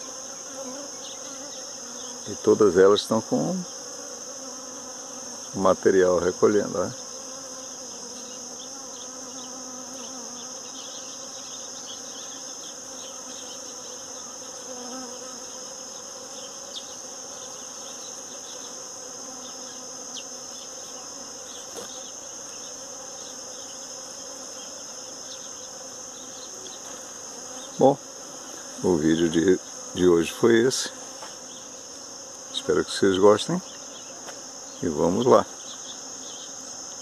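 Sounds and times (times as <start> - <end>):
bees buzzing: 0.0 - 37.0
high-pitched insect trill: 0.0 - 37.0.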